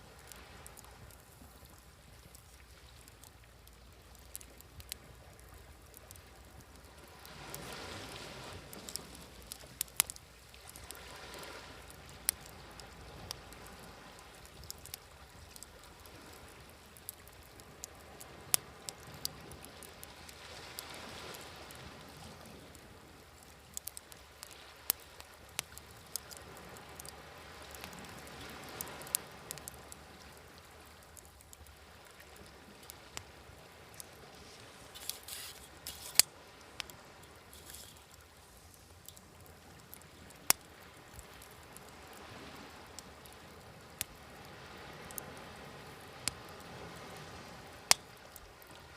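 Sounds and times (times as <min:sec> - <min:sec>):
small waves washing: 0:00.0 - 0:48.9
wood fire crackling: 0:00.0 - 0:48.9.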